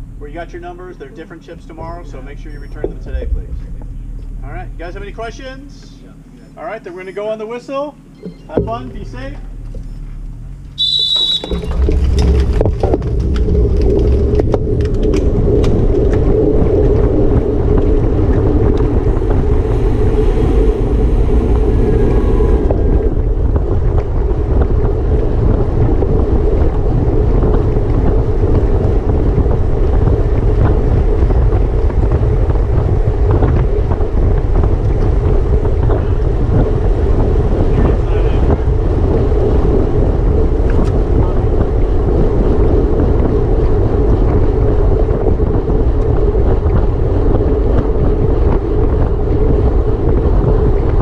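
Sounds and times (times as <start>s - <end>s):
wind buffeting microphone: 0.0s - 6.4s, 8.0s - 51.0s.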